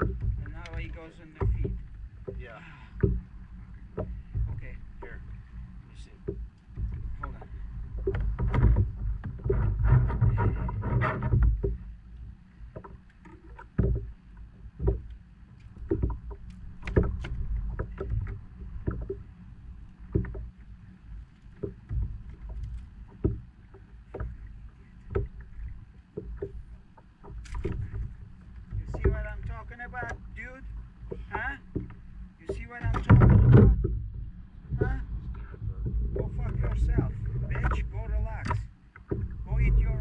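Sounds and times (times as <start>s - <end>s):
sharp knocks and clicks: 0.0s - 2.4s, 3.0s - 5.4s, 6.2s - 12.0s, 12.7s - 19.3s, 20.0s - 40.0s
water noise: 0.0s - 40.0s
wind: 0.0s - 40.0s.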